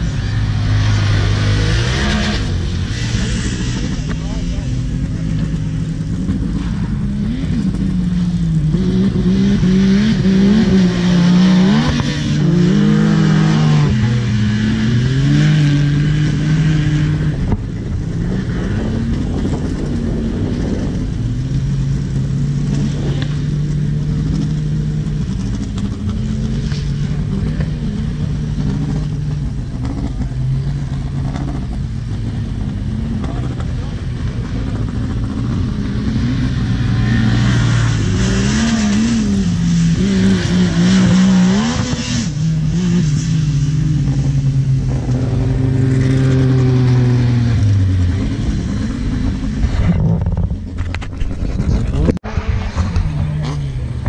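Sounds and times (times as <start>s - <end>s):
race vehicle engines revving: 0.0s - 54.0s
steady engine drone: 0.0s - 54.0s.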